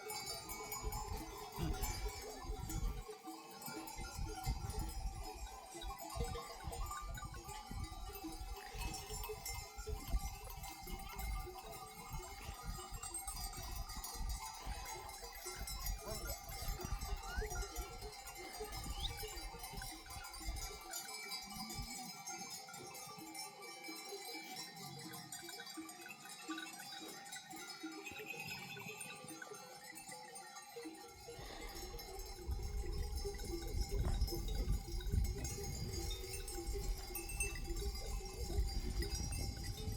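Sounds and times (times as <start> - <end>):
sheep bells clanking: 0.0 - 39.9.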